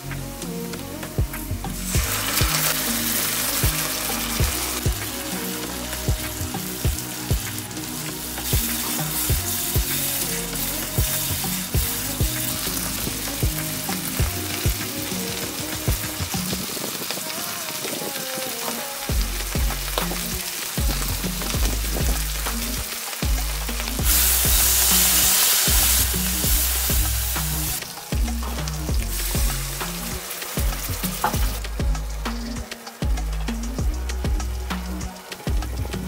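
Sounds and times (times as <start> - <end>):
background music with beat: 0.0 - 36.0
tomatoes sizzling in oil: 0.0 - 36.0.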